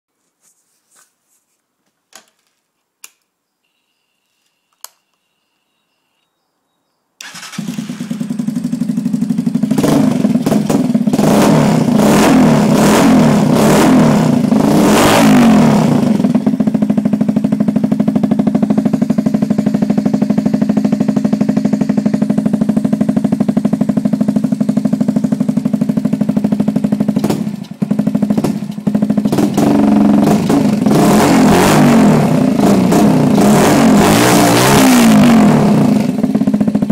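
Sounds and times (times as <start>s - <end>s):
motorcycle engine starting and revving: 7.2s - 36.9s.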